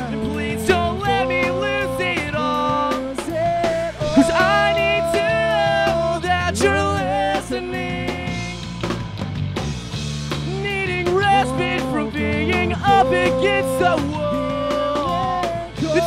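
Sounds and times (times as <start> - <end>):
person singing: 0.0 - 8.6, 10.5 - 16.0
live rock band playing: 0.0 - 16.0.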